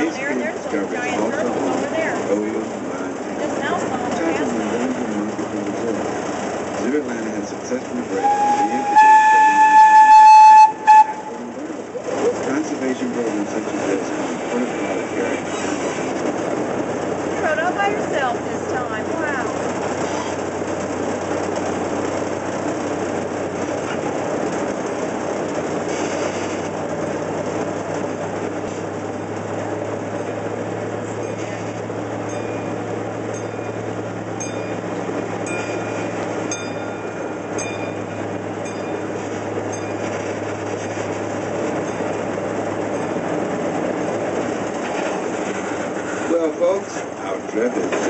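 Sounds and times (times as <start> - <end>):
train wheels rumbling and rattling: 0.0 - 48.0.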